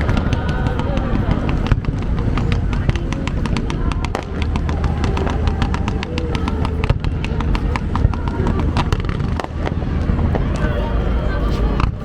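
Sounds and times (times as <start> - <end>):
fireworks crackling and popping: 0.0 - 12.0
low rumble: 0.0 - 12.0.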